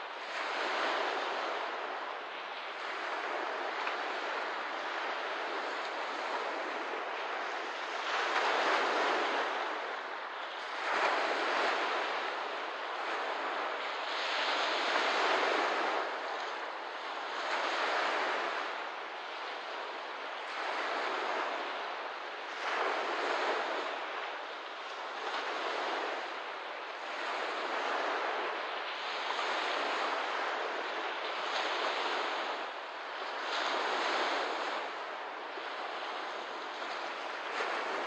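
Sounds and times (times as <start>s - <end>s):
small waves washing onto shore: 0.0s - 38.0s.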